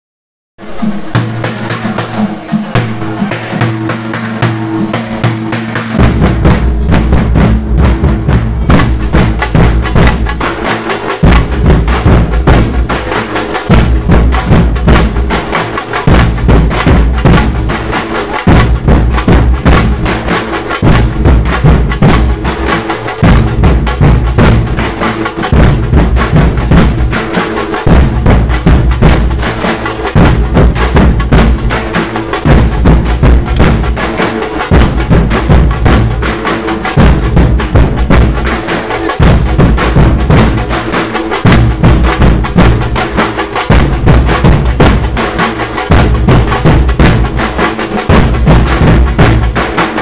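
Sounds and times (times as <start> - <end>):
dhol drums beating: 0.6 - 50.0.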